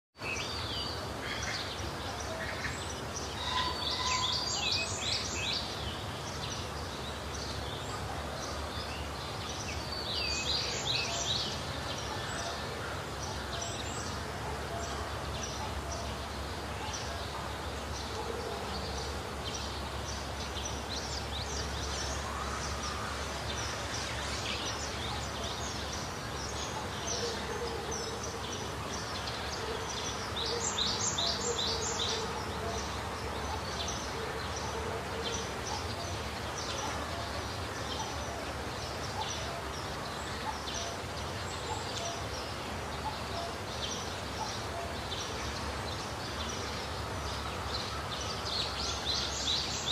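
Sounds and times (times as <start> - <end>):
outdoor background noise: 0.2 - 49.9
birds chirping: 0.4 - 49.9.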